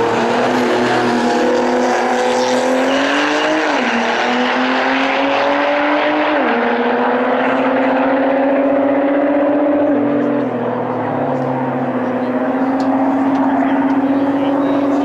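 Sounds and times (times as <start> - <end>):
racing car engines accelerating: 0.0 - 15.0.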